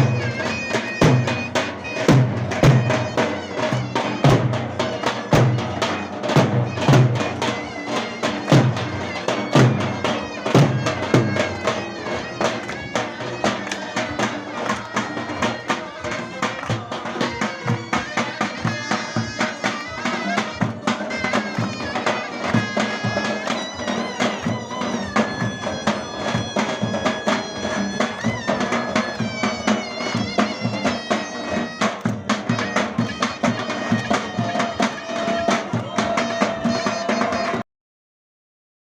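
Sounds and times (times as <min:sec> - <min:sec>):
shawm playing folk dance tune: 0:00.0 - 0:37.6.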